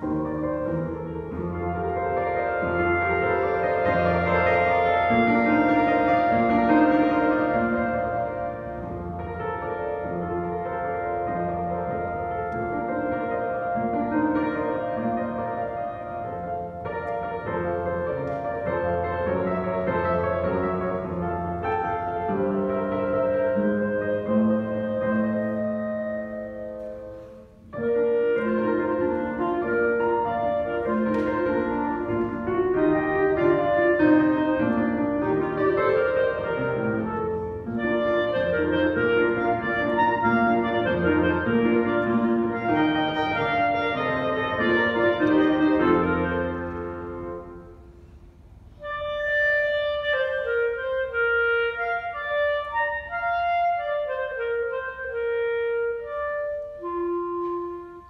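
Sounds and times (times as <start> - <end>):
clarinet melody: 0.0 - 58.0
piano accompaniment: 0.0 - 58.0.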